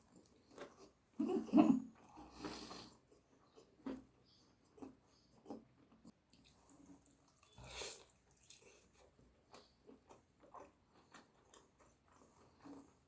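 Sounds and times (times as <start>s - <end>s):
chewing food: 0.0s - 1.2s, 1.9s - 13.0s.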